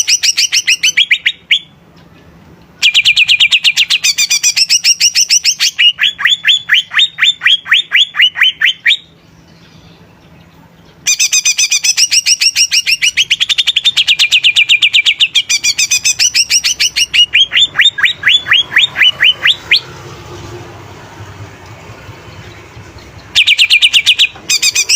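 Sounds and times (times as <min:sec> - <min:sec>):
bird song of sharp chirps: 0:00.0 - 0:02.2, 0:02.8 - 0:24.9.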